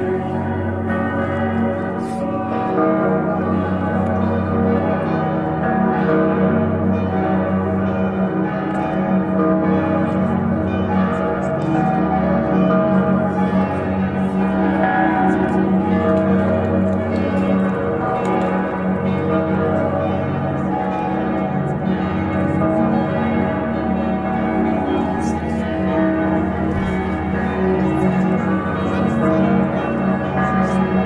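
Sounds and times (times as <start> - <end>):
church bells ringing: 0.0 - 31.0.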